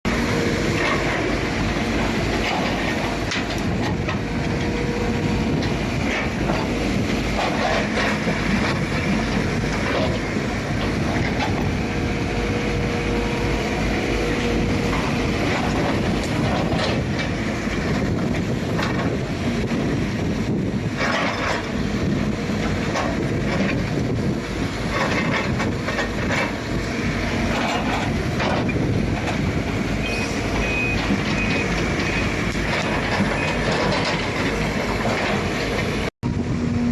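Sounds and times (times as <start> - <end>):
excavator diesel engine: 0.0 - 36.9.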